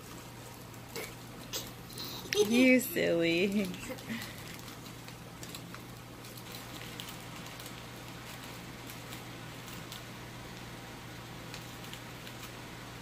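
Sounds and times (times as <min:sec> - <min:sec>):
plastic bag crinkling: 0:00.0 - 0:13.0
steady low hum: 0:00.0 - 0:13.0.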